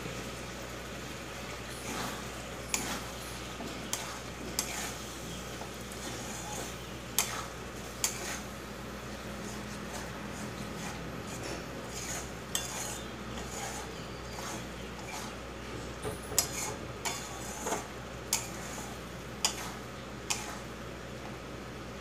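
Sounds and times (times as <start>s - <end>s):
spatula scraping a pan: 1.7s - 15.5s, 16.2s - 20.7s.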